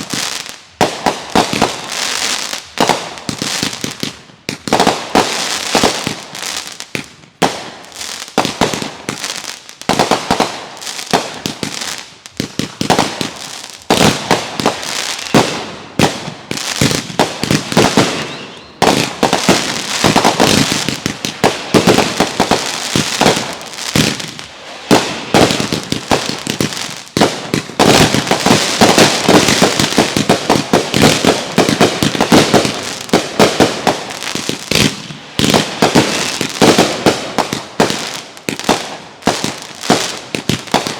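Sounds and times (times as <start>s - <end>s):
fireworks banging and crackling: 0.0s - 40.9s.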